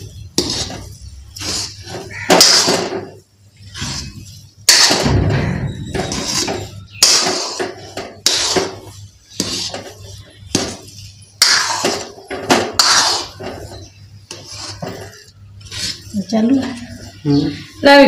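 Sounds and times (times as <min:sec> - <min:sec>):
steel spatula scraping metal pan: 0:00.0 - 0:05.1, 0:05.7 - 0:17.8.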